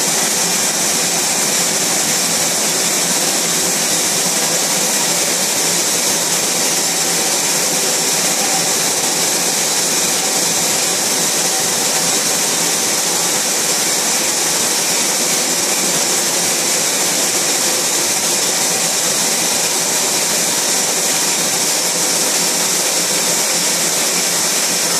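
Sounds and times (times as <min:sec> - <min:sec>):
printing press running with hiss: 0:00.0 - 0:24.9.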